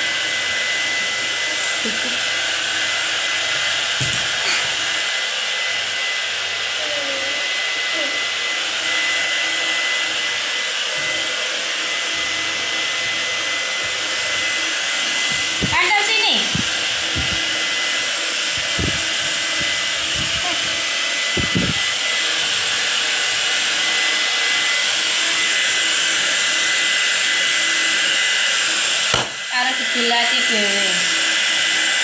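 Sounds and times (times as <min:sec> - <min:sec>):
hair dryer blowing: 0:00.0 - 0:32.0.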